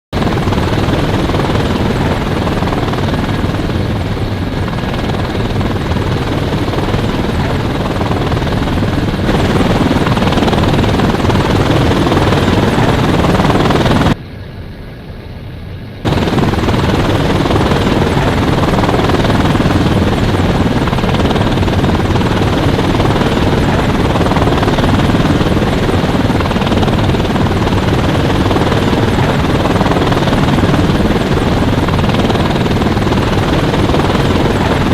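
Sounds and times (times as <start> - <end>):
helicopter rotor and engine: 0.1 - 14.2, 16.0 - 34.9.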